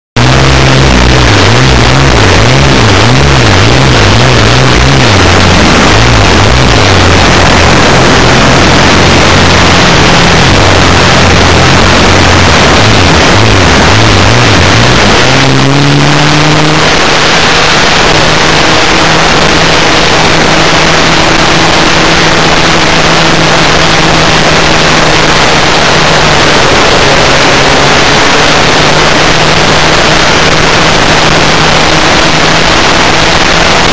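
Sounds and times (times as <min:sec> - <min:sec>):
model plane motor humming: 0:00.2 - 0:33.9.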